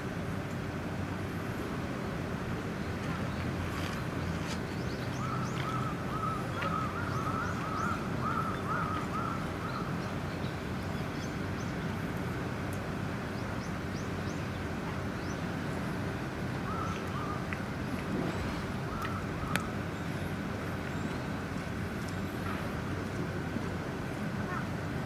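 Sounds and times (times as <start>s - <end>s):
steady low background hum: 0.0s - 25.0s.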